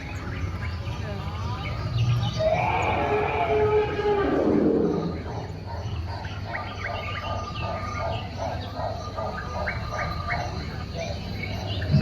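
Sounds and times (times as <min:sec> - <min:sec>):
rhythmic animal call: 0:00.0 - 0:12.0.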